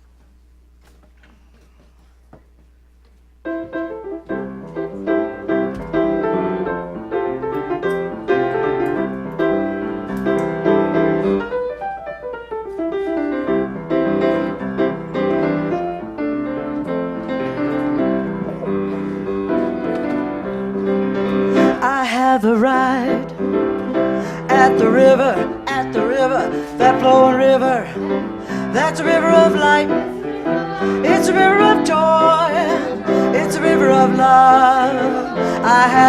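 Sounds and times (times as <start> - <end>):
piano playing chords and melody: 3.4 - 36.0.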